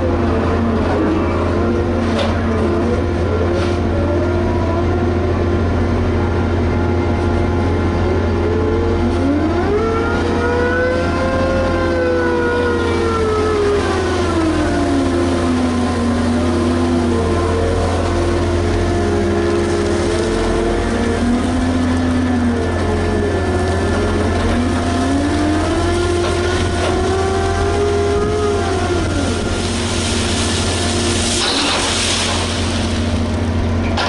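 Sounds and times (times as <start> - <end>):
diesel engine running and revving: 0.0 - 34.0.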